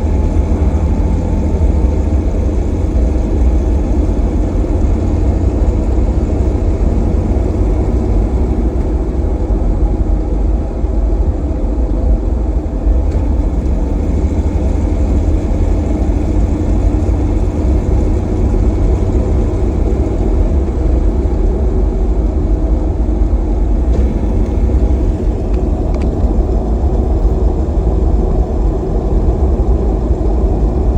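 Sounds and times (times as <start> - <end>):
drivetrain low rumble: 0.0 - 30.9.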